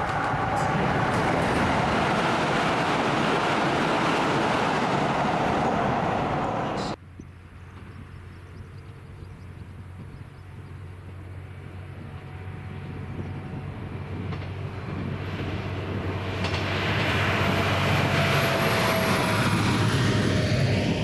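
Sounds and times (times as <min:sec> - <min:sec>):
train approaching: 0:00.0 - 0:21.0.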